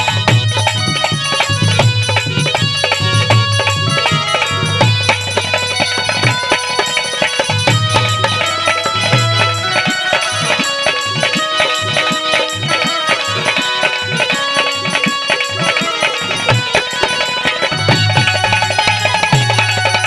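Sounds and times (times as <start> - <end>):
hand drum rhythm: 0.0 - 20.0
held melodic instrument lines: 0.0 - 20.0.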